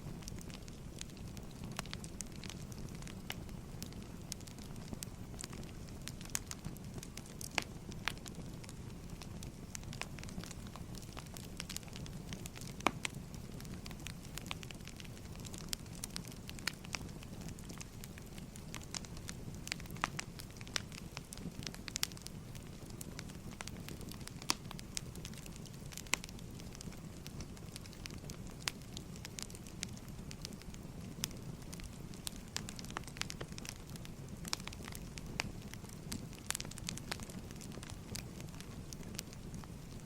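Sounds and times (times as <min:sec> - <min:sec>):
firewood crackling and popping: 0:00.0 - 0:40.0
low rumble of fire: 0:00.0 - 0:40.0.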